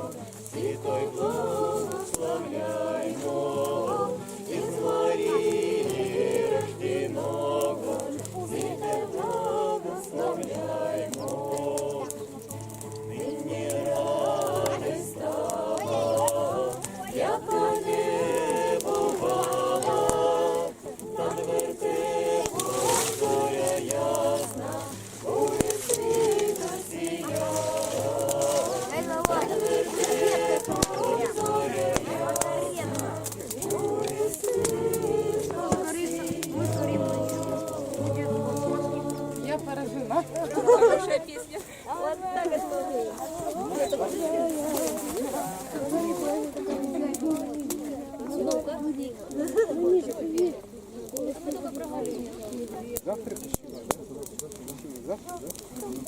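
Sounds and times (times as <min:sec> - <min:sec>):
group singing a cappella: 0:00.0 - 0:48.9.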